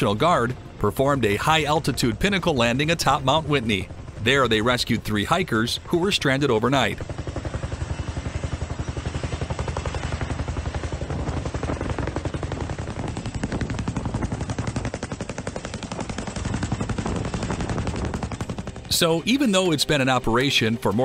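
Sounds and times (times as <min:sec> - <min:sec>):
helicopter rotor chop: 0:00.0 - 0:21.0.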